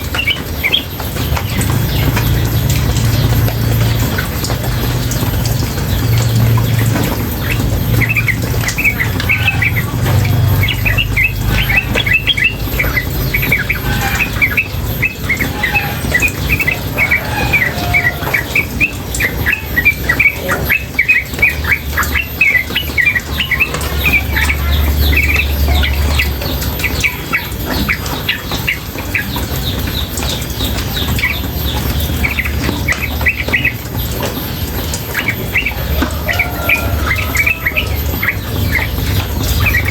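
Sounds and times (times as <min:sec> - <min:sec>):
bird chirping rapidly: 0:00.0 - 0:39.9
running water: 0:00.0 - 0:39.9.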